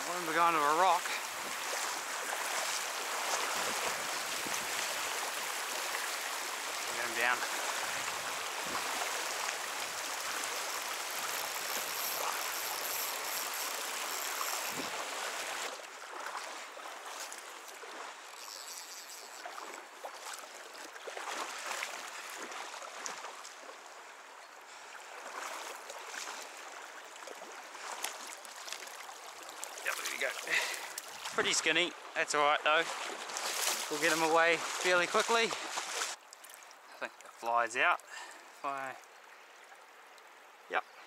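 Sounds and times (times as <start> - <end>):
river water rushing: 0.0 - 24.2, 25.0 - 37.0.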